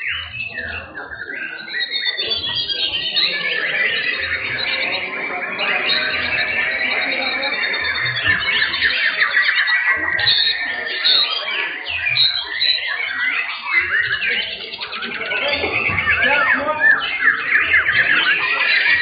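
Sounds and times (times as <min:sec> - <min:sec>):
chorus of birds singing: 0:00.0 - 0:19.0.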